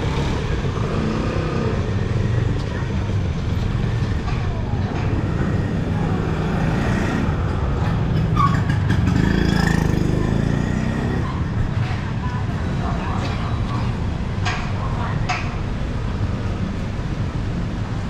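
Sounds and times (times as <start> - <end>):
crowd voices: 0.0 - 8.2, 9.2 - 15.8
vehicle engines rumbling: 0.0 - 18.0.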